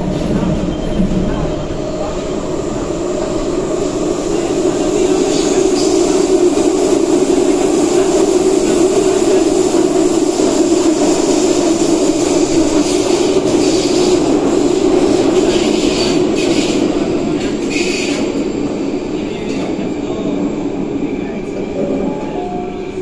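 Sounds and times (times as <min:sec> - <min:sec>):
train rumble with hiss: 0:00.0 - 0:23.0.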